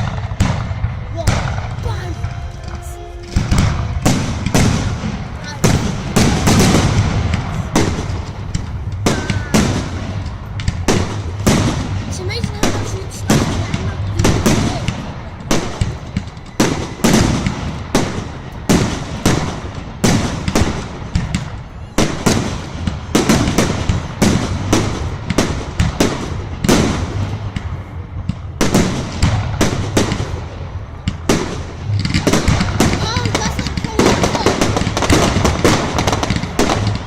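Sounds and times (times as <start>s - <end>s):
fireworks exploding: 0.0s - 37.0s.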